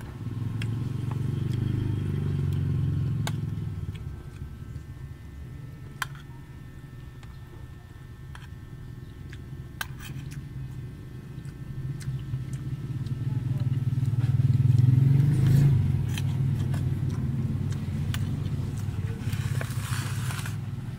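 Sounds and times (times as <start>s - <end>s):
vehicle engine hum: 0.0s - 20.9s.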